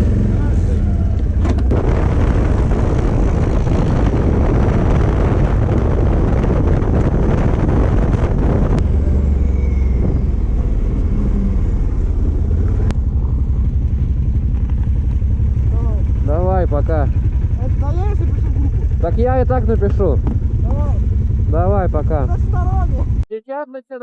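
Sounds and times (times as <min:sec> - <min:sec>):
quad bike engine running: 0:00.0 - 0:23.2
wind rushing over microphone: 0:00.0 - 0:23.2.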